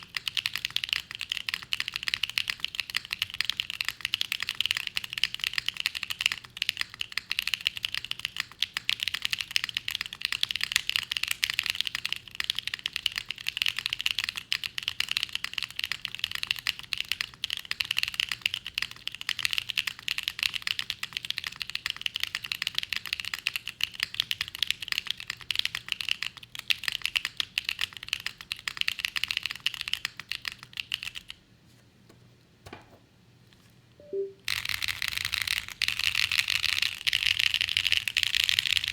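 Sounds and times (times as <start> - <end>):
fast mechanical keyboard typing: 0.0 - 31.4, 34.5 - 38.9.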